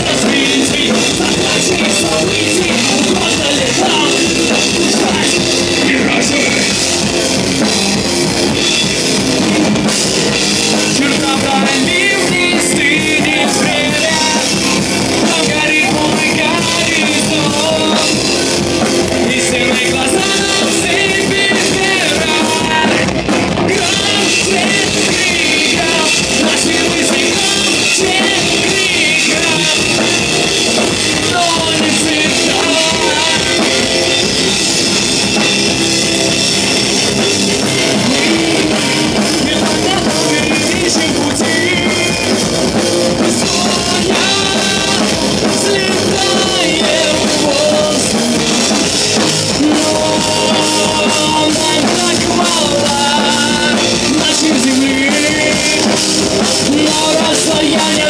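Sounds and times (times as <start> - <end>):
electric guitars: 0.0 - 58.0
person singing: 0.0 - 58.0
pounding drum kit: 0.0 - 58.0.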